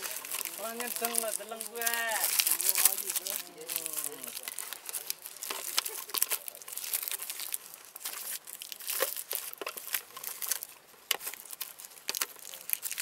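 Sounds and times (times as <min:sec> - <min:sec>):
rustling and scraping on rock: 0:00.0 - 0:13.0.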